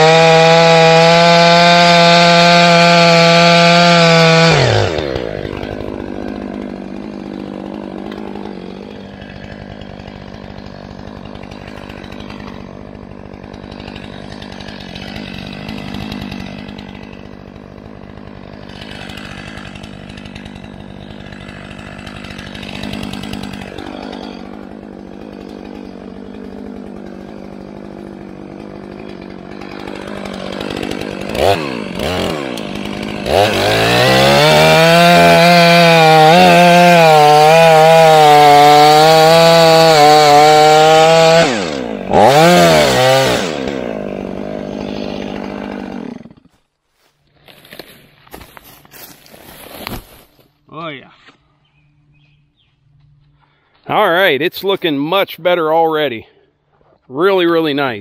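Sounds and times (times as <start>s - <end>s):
chainsaw idling and revving: 0.0s - 50.2s, 52.1s - 58.0s
chainsaw cutting log: 0.0s - 50.7s, 52.2s - 58.0s.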